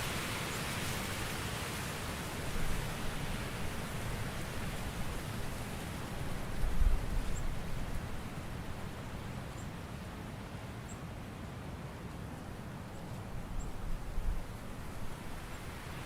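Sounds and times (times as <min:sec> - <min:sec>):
wind rustling leaves: 0:00.0 - 0:16.0.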